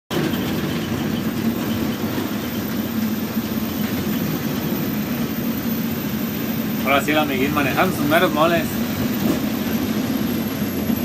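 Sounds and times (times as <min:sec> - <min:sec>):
diesel engine droning: 0:00.1 - 0:11.0.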